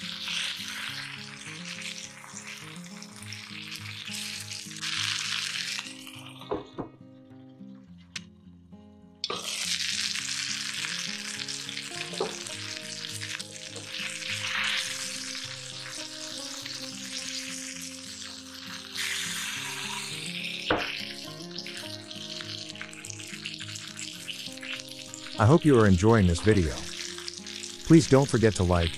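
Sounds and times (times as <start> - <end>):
meat sizzling in hot oil: 0.0 - 6.7, 9.2 - 28.9.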